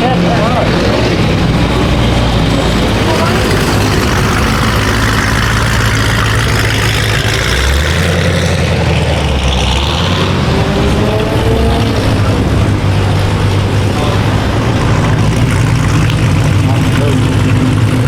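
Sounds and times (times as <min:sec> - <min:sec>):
deeper engine note: 0:00.0 - 0:18.0
vehicle engines idling: 0:00.0 - 0:18.0.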